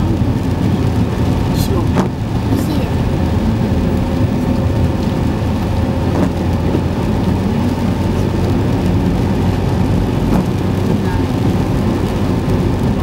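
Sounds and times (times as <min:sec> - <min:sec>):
car cabin rumble on wet road: 0:00.0 - 0:13.0.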